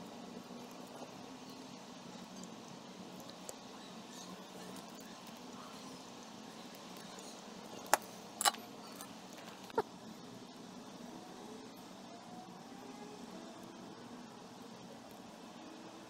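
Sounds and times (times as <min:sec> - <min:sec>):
faint hiss and hum: 0:00.0 - 0:16.0.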